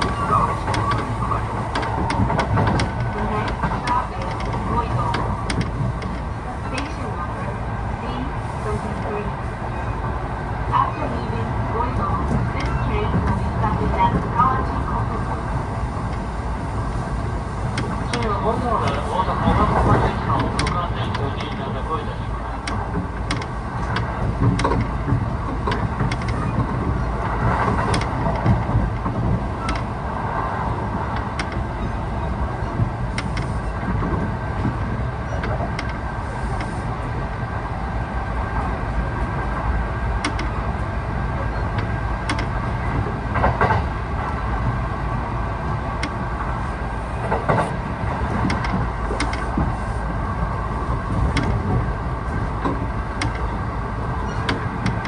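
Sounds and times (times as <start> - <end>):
wheels clicking over rail joints: 0.0 - 7.5, 11.2 - 37.3, 38.5 - 55.0
train wheels rumbling: 0.0 - 55.0.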